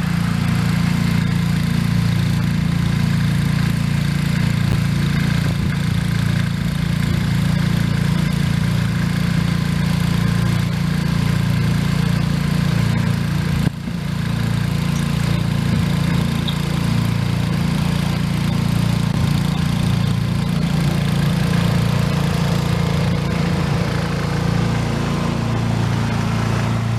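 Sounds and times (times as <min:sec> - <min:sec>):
small tractor engine running: 0:00.0 - 0:26.9.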